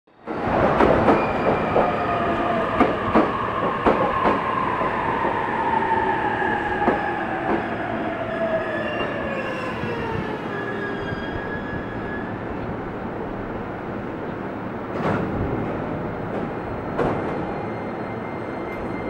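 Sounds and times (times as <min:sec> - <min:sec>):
train rolling rumble: 0:00.2 - 0:08.1, 0:08.9 - 0:19.0.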